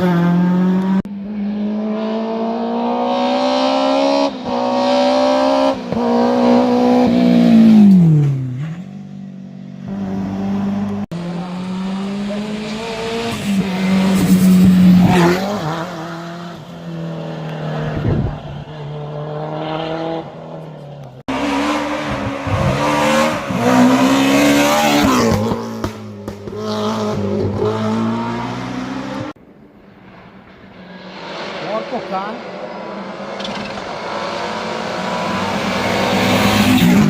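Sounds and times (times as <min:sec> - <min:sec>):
rally car engines revving: 0:00.0 - 0:29.4, 0:30.2 - 0:37.0.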